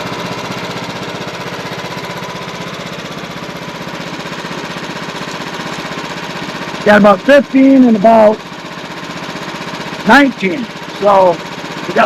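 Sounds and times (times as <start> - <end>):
sawmill engine pulsing: 0.0 - 12.0.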